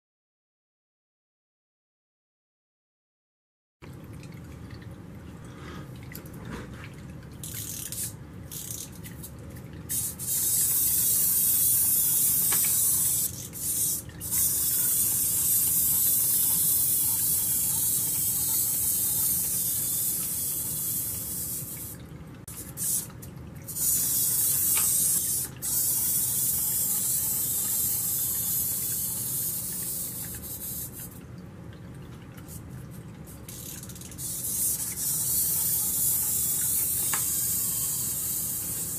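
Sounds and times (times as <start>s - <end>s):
water trickling and splashing: 3.8s - 38.9s.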